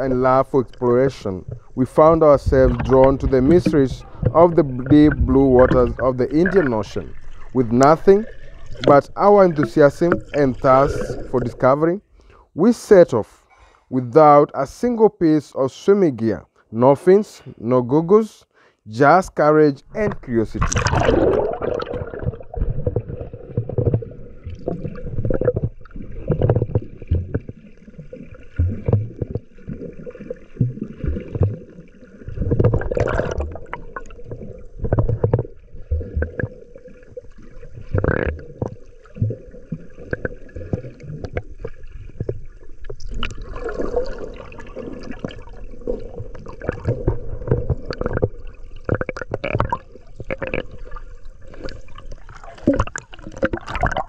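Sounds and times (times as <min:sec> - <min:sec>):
low underwater bumps: 0:00.0 - 0:11.8, 0:19.9 - 0:54.0
muffled underwater sloshing: 0:00.0 - 0:12.4, 0:19.9 - 0:54.0.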